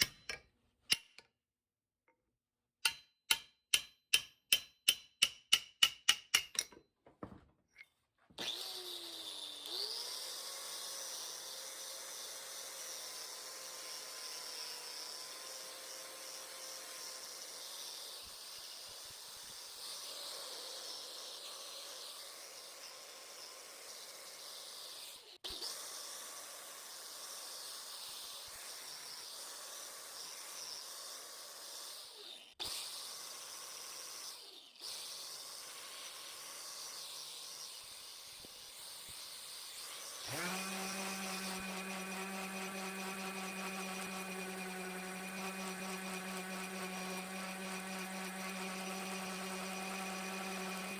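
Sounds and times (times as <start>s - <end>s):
electric power tool motor humming: 8.4s - 50.9s.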